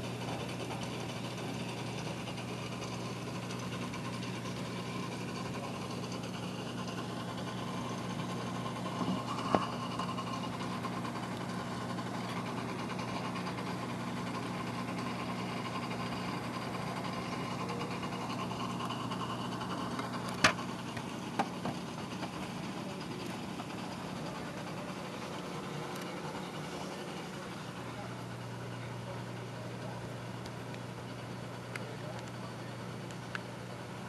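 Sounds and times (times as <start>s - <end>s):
aquarium equipment humming: 0.0s - 34.0s.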